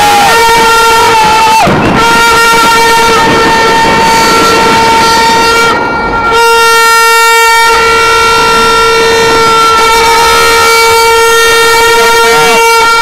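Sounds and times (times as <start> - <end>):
horn piercing steady note: 0.0 - 13.0.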